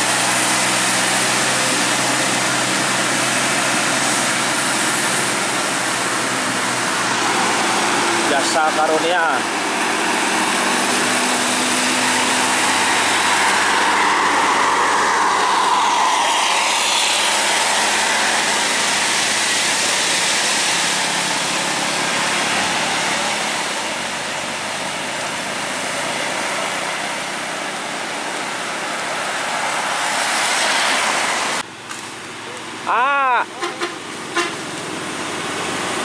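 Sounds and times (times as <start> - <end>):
bus engine climbing: 0.0 - 36.0
tyres hissing on wet road: 0.0 - 36.0.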